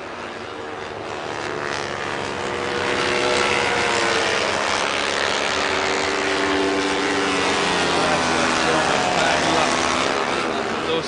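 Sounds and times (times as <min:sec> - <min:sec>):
racing motorcycle engines high revs: 0:00.0 - 0:11.0.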